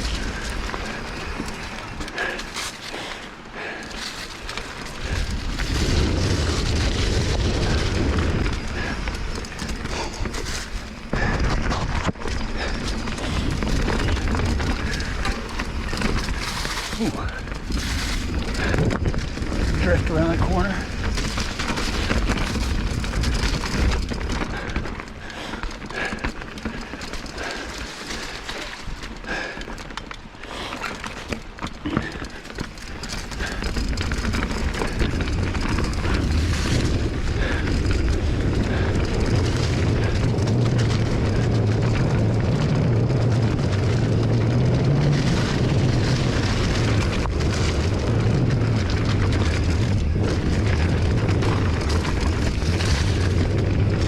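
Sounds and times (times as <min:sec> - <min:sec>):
tyres rumbling over dirt: 0:00.0 - 0:54.0
wind buffeting microphone: 0:04.7 - 0:29.6, 0:32.0 - 0:54.0.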